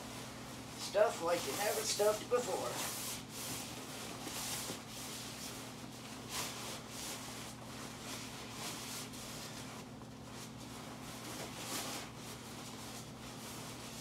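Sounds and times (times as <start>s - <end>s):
sleeping bag rustling: 0.0s - 14.0s
steady low hum: 0.0s - 14.0s.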